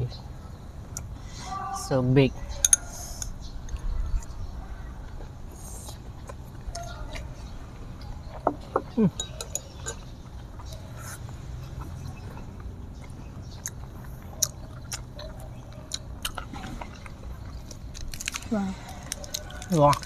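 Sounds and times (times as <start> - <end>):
people chewing food: 0.2 - 1.5, 2.6 - 20.0.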